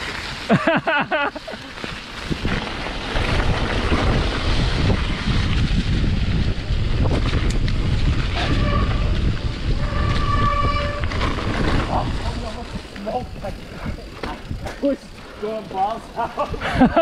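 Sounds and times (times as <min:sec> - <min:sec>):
bike rattling: 0:00.0 - 0:17.0
tyres rolling on gravel: 0:00.0 - 0:17.0
wind buffeting microphone: 0:02.1 - 0:17.0.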